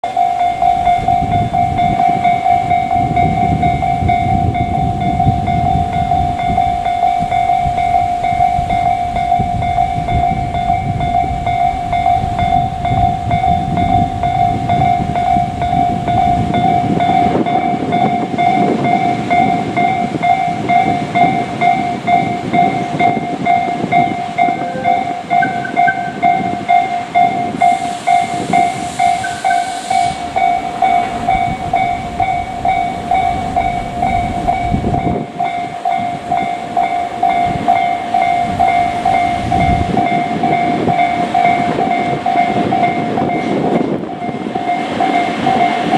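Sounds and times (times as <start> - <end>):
level crossing bell ringing: 0.0 - 39.4
train rumbling and rattling: 0.0 - 45.9.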